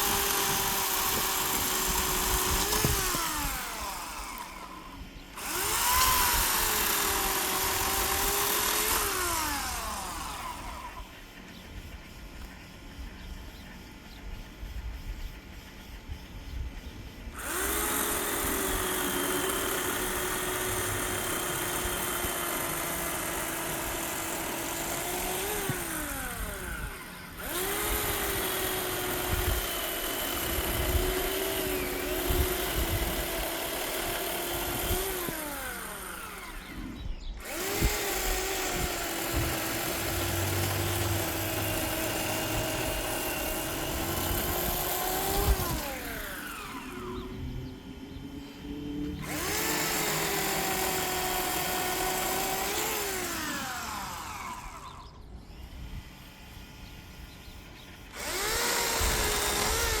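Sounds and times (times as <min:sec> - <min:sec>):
electric chainsaw motor whining: 0:00.0 - 0:11.4, 0:17.3 - 1:00.0.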